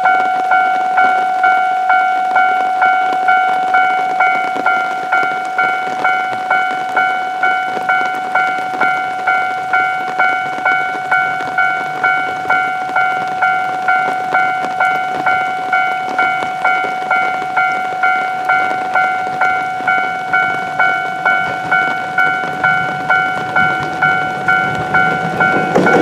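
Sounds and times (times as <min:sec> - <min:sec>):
heavy rain hiss: 0:00.0 - 0:26.0
level crossing warning bell: 0:00.0 - 0:26.0.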